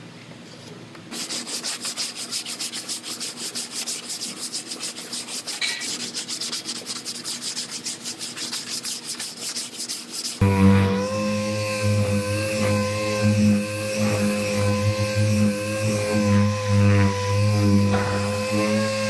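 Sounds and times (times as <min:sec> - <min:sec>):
sanding block rubbing: 0:01.1 - 0:19.0.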